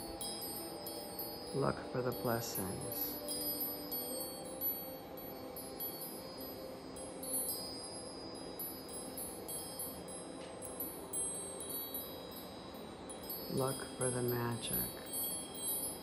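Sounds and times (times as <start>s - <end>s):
wind chimes ringing: 0.0s - 16.0s.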